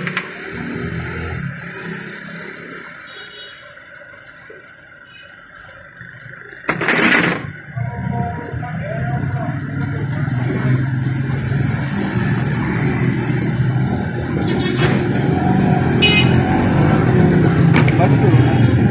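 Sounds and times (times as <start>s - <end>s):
engine droning: 0.0s - 18.9s.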